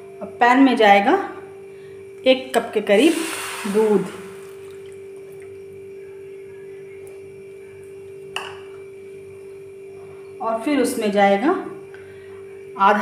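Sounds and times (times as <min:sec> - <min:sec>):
steady mid-range hum: 0:00.0 - 0:13.0.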